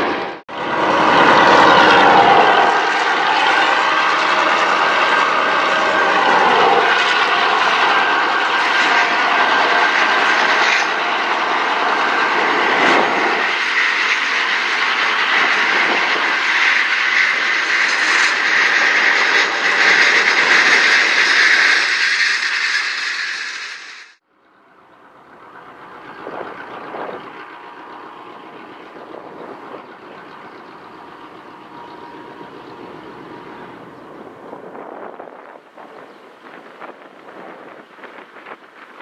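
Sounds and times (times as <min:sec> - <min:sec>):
diesel locomotives engine: 0:00.0 - 0:39.0.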